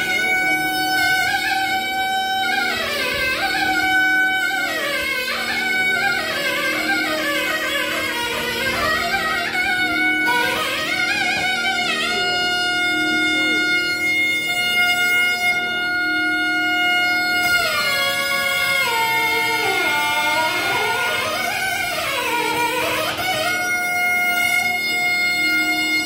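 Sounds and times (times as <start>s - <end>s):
double-reed pipes playing in unison: 0.0s - 26.0s.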